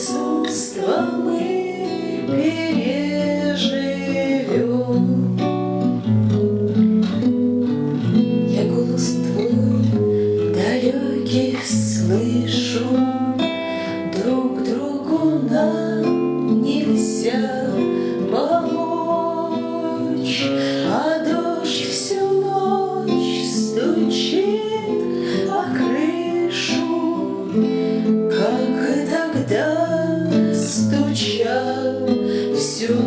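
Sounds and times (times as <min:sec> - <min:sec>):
acoustic guitar plucked and strummed: 0:00.0 - 0:33.0.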